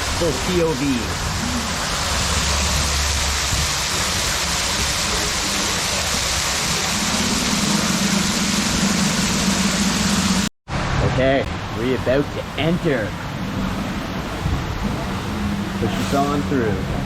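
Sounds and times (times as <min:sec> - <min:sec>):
rushing water: 0:00.0 - 0:17.0
low mechanical hum: 0:01.1 - 0:16.1.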